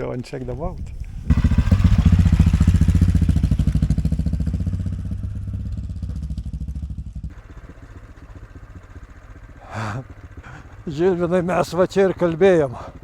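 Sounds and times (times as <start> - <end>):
motorcycle engine pulling away: 0.8 - 13.0.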